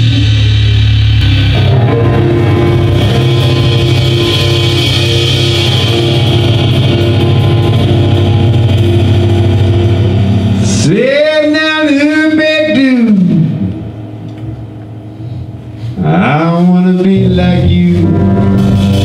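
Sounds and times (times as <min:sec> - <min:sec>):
bass guitar: 0:00.0 - 0:19.0
drum kit: 0:00.0 - 0:19.0
electric guitar: 0:00.0 - 0:19.0
stage piano: 0:00.0 - 0:19.0.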